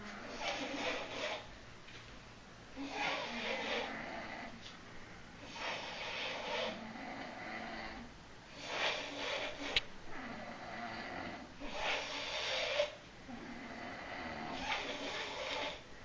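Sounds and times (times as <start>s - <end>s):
people snoring: 0.0s - 1.5s, 2.8s - 4.6s, 5.4s - 15.8s.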